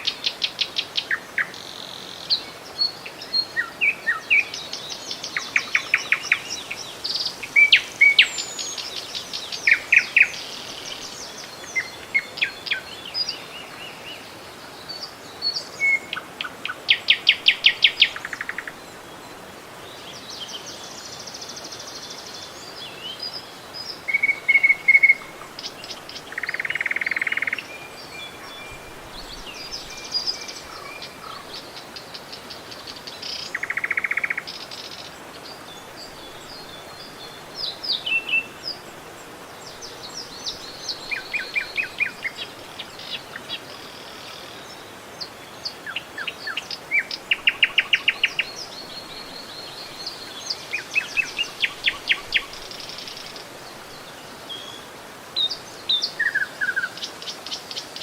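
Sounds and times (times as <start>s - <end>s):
river water flowing: 0.0s - 58.0s
songbirds singing: 0.0s - 58.0s.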